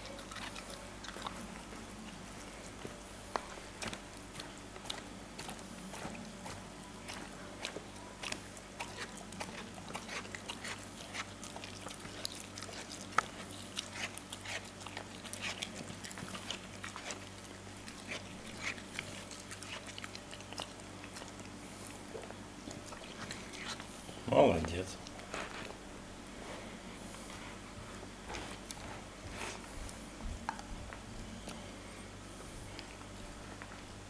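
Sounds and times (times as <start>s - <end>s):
dog chewing food: 0.0s - 31.7s.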